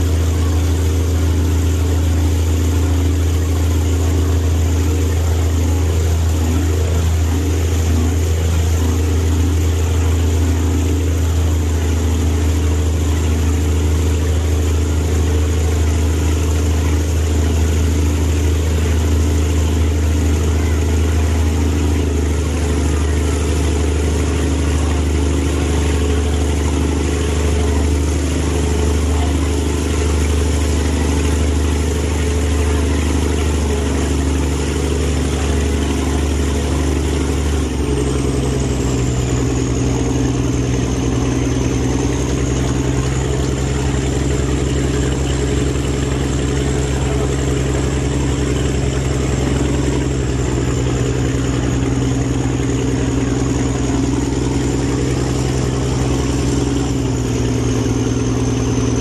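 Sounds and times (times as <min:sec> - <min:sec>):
boat engine running: 0:00.0 - 0:59.0
high thin whine: 0:00.0 - 0:59.0.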